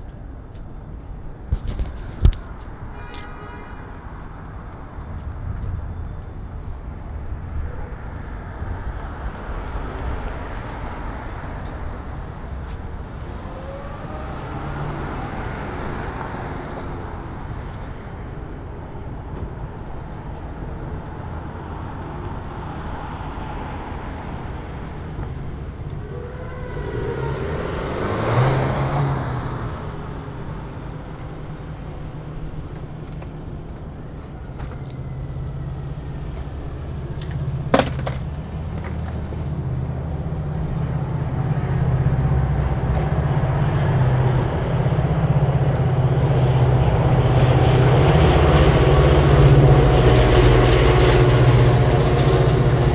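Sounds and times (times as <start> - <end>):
cars passing on city street: 0.0 - 52.9.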